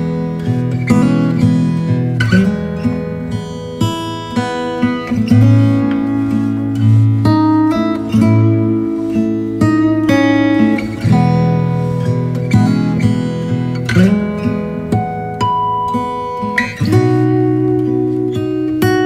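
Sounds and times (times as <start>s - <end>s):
acoustic guitar melody: 0.0s - 19.0s.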